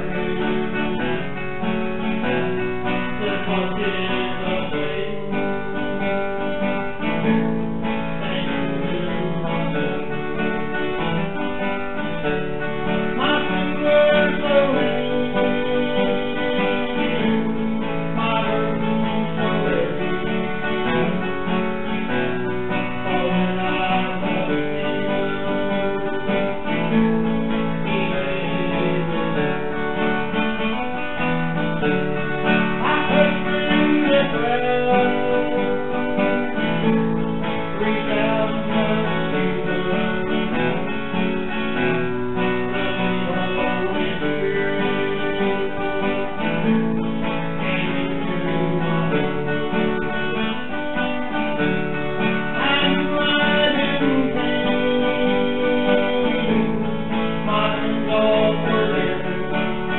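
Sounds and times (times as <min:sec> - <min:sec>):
country acoustic guitar music: 0:00.0 - 0:59.9.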